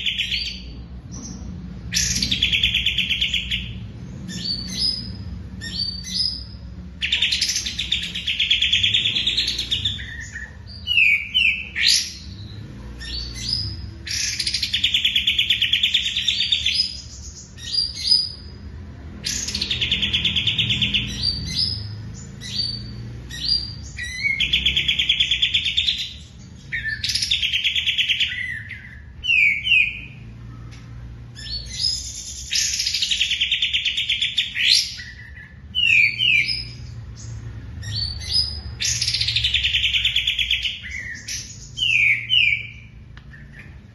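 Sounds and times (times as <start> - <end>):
songbird trilling: 0.0 - 18.6, 19.2 - 30.8, 31.4 - 43.9.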